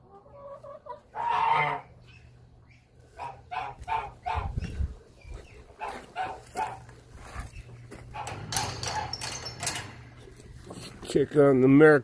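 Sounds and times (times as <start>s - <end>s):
poultry clucking: 0.0s - 11.2s.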